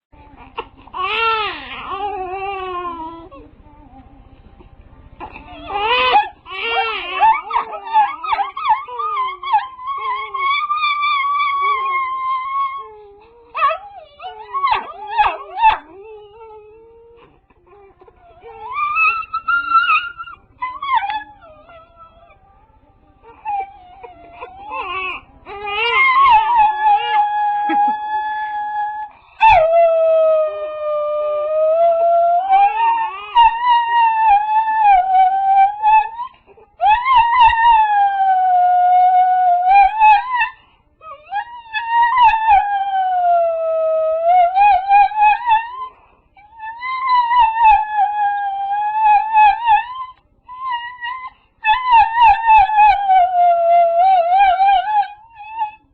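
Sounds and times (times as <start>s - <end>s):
dog howling and whimpering: 0.2s - 4.4s, 5.2s - 55.9s.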